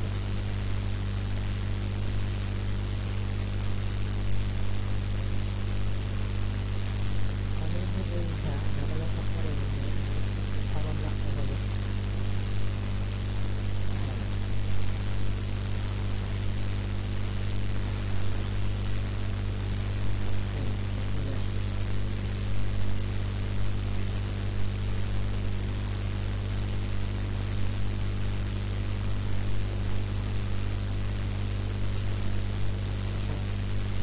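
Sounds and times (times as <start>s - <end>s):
low electrical hum: 0.0s - 34.0s
microphone hiss: 0.0s - 34.0s.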